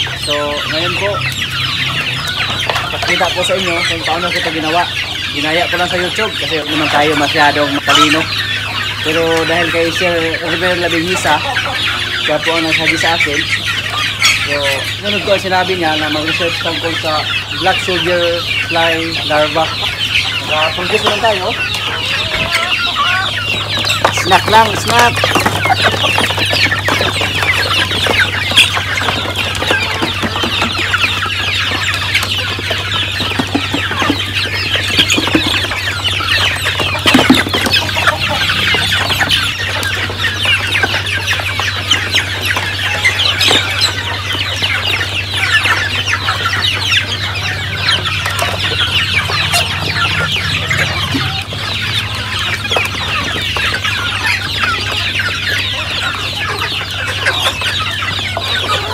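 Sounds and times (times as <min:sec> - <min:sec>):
chickens clucking: 0:00.0 - 0:58.9.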